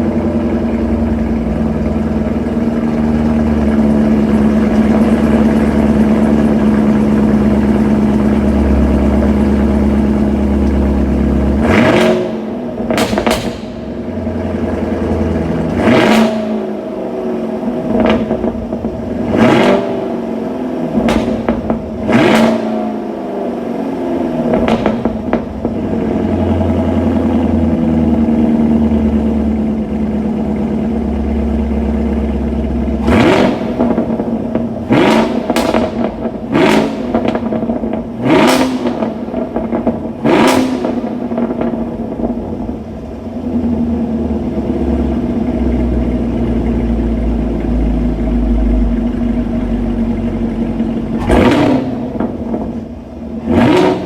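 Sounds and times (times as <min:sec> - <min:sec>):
car engine idling: 0:00.0 - 0:54.0
engine throttle blips: 0:00.0 - 0:54.0.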